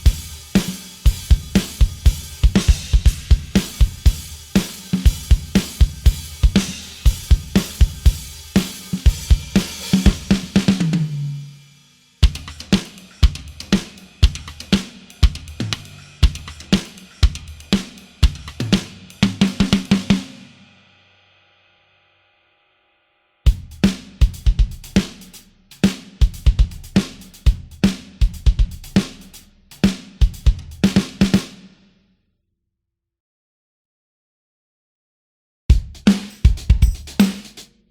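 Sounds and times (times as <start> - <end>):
drum kit playing a groove: 0.0 - 20.5, 23.5 - 31.7, 35.7 - 37.7.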